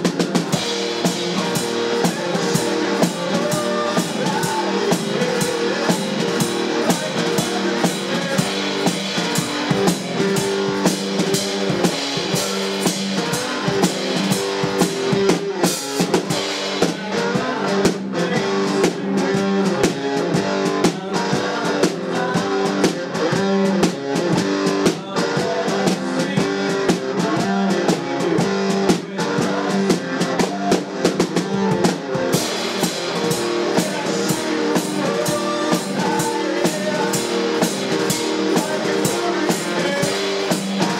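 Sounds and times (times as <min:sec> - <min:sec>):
drum kit rock beat: 0:00.0 - 0:40.9
electric guitar: 0:00.0 - 0:40.9.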